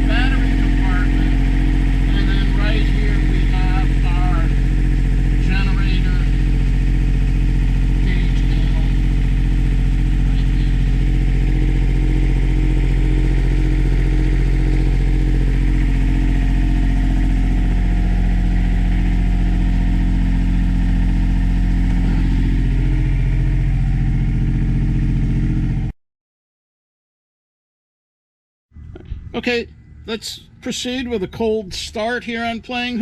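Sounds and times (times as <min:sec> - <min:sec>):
diesel generator running: 0:00.0 - 0:25.9, 0:28.7 - 0:33.0.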